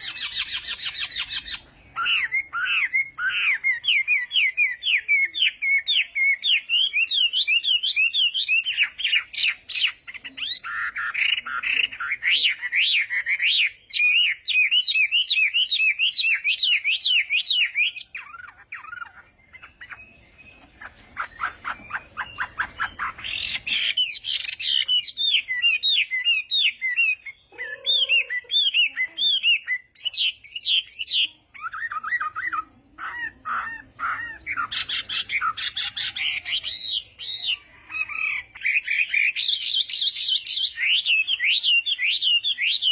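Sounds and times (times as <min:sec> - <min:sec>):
bird singing whistled notes: 0:00.0 - 0:42.9.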